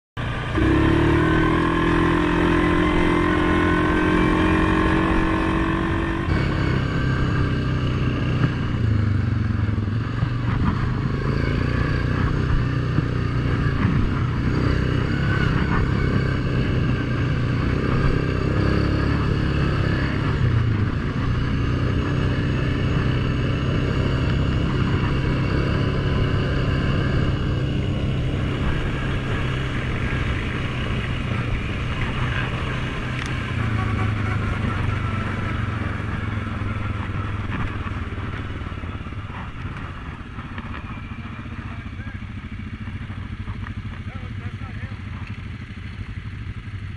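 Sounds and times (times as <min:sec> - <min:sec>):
atv engine revving: 0:00.2 - 0:46.9.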